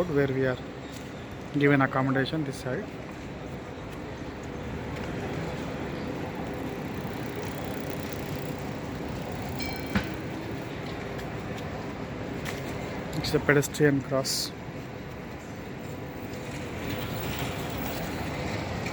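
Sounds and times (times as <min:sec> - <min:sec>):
tram wheels rumbling on rails: 0:00.0 - 0:13.7, 0:14.5 - 0:18.9.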